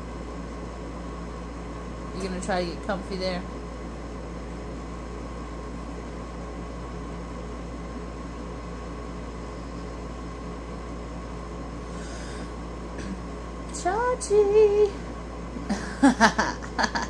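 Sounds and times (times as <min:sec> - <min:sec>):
appliance hiss and hum: 0:00.0 - 0:17.0.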